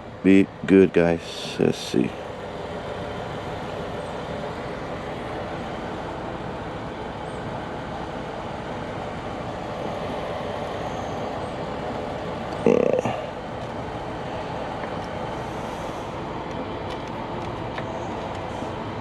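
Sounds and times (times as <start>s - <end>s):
mechanical hum with rushing noise: 0.0s - 19.0s.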